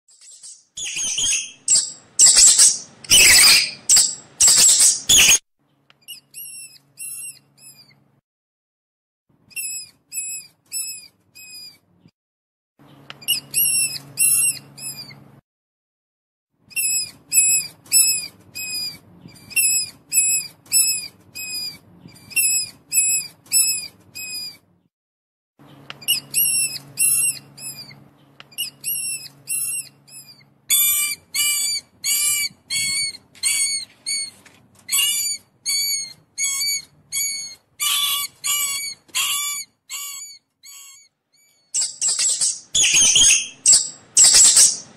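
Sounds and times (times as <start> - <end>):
mouse squeaking: 0.1 - 5.4, 6.0 - 8.0, 9.5 - 11.8, 13.1 - 15.2, 16.7 - 24.6, 25.8 - 44.9.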